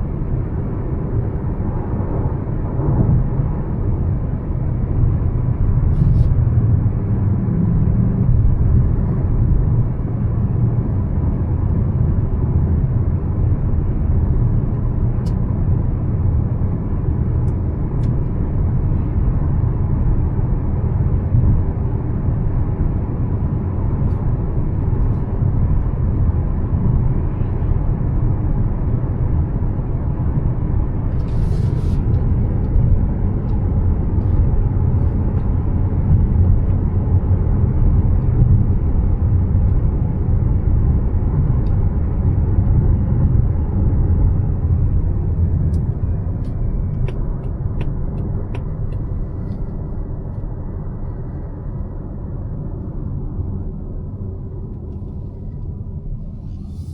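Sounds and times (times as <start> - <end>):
car road and engine rumble: 0.0 - 56.9.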